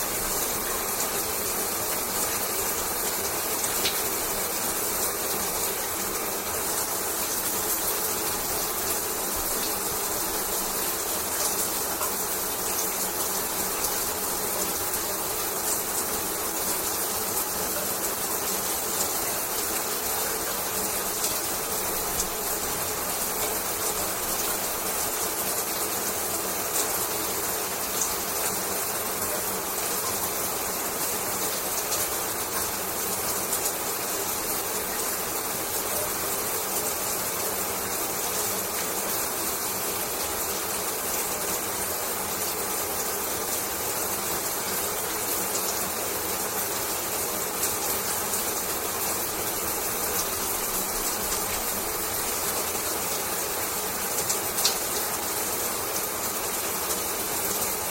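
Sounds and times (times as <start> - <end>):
shower spraying water: 0.0 - 57.9.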